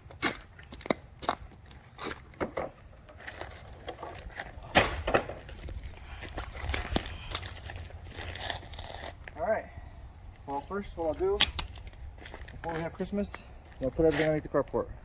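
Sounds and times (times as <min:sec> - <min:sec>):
footsteps: 0:00.1 - 0:09.4, 0:10.3 - 0:14.8.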